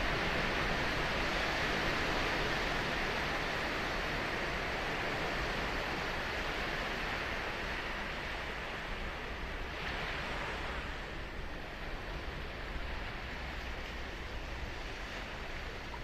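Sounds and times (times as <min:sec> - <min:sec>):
ocean surf on sandy beach: 0:00.0 - 0:16.0.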